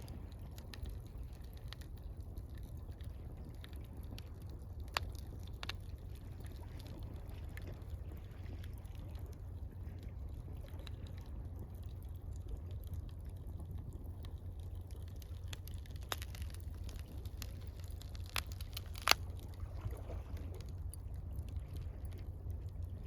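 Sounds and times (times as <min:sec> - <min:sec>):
campfire crackling: 0:00.0 - 0:23.0
gentle water: 0:00.0 - 0:23.0.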